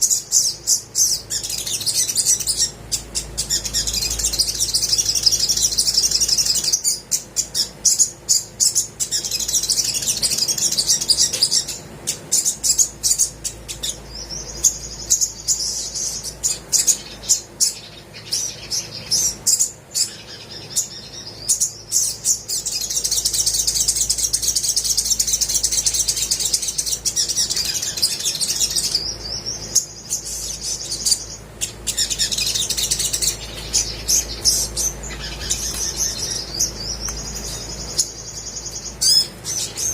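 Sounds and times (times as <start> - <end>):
bird chips: 0.0 - 39.9
bird singing high trills: 0.0 - 39.9.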